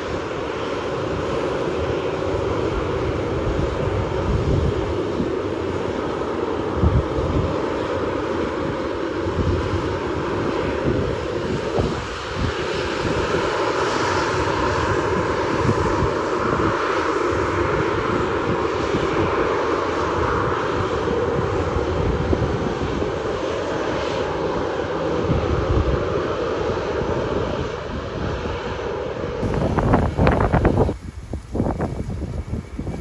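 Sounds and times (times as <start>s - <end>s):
jet engine roar: 0.0s - 33.0s
wind rumbling on microphone: 0.0s - 33.0s.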